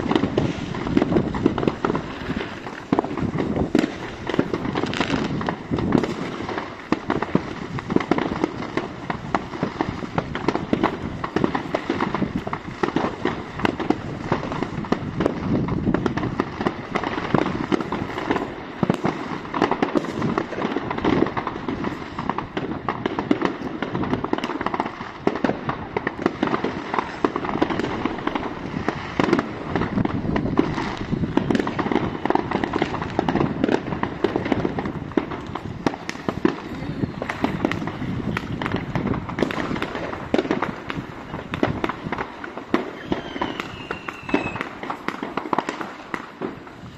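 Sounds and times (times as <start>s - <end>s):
fireworks banging and crackling: 0.0s - 46.9s.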